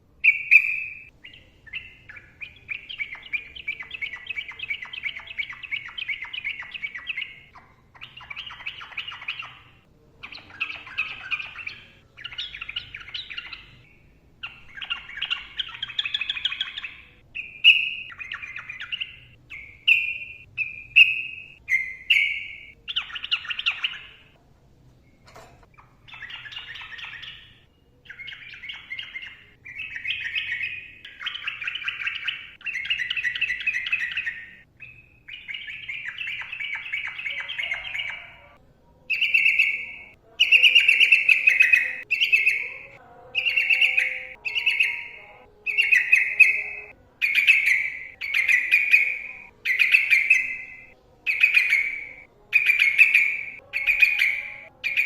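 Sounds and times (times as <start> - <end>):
bulbul singing: 0.0 - 24.4, 25.0 - 55.0.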